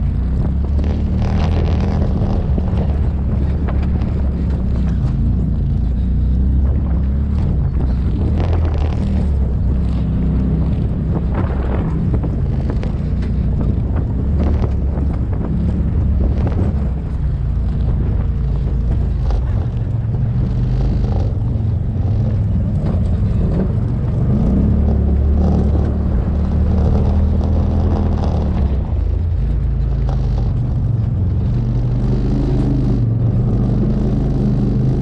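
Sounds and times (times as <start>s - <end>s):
knocks and rattles: 0.0s - 34.1s
off-road vehicle engine running: 0.0s - 35.0s
wind buffeting microphone: 0.0s - 35.0s.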